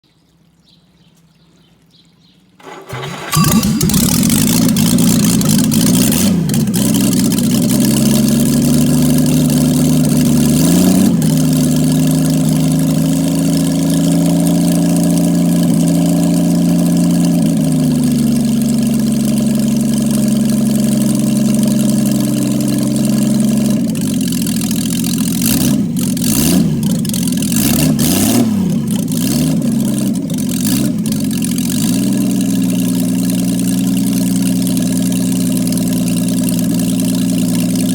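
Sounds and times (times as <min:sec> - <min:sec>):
car engine idling and revving: 0:02.6 - 0:37.9.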